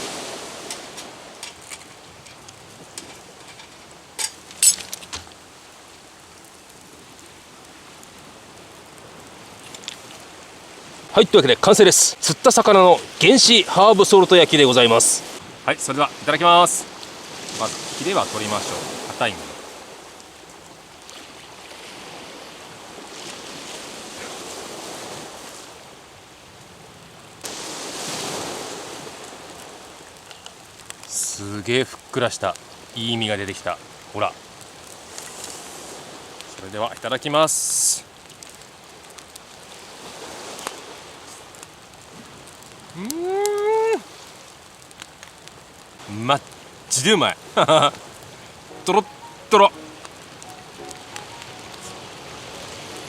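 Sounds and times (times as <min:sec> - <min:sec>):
sea waves washing on shore: 0:00.0 - 0:53.0
steady background hiss: 0:00.0 - 0:53.0.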